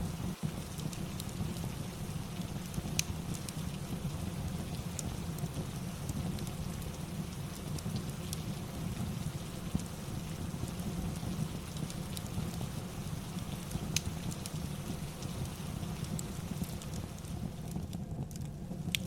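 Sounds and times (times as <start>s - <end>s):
fire crackling and popping: 0.0s - 19.0s
rain: 0.0s - 19.0s.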